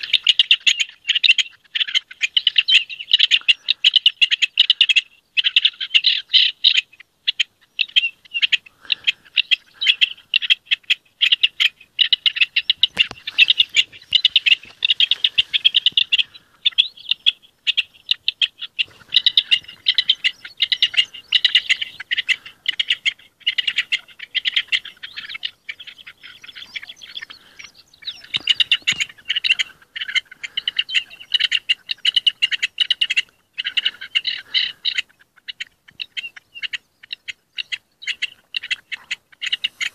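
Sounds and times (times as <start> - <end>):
partridge chattering song: 0.0 - 39.9.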